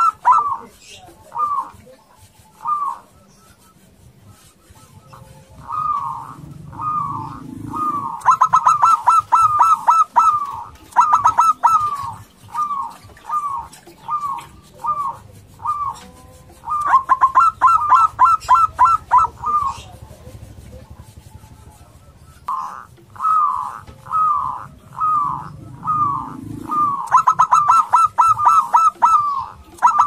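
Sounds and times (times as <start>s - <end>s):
dove cooing: 0.0s - 30.0s
rapid staccato bird notes: 0.0s - 30.0s.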